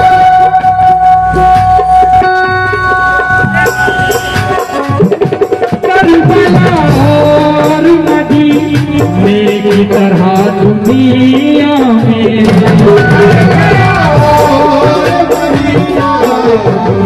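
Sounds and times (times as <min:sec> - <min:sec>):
tabla and percussion beating: 0:00.0 - 0:17.0.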